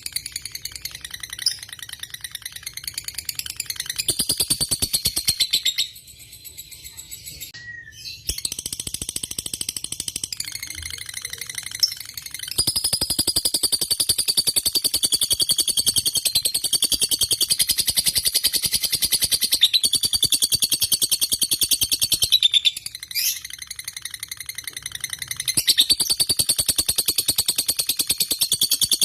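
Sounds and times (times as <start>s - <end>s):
lovebird high chattering: 0.0s - 29.0s.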